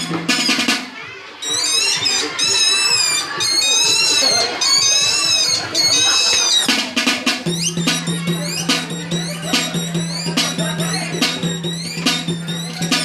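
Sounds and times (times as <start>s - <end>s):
drum strikes: 0.0s - 1.0s, 1.9s - 13.0s
whistled melody: 1.4s - 6.7s, 7.5s - 13.0s.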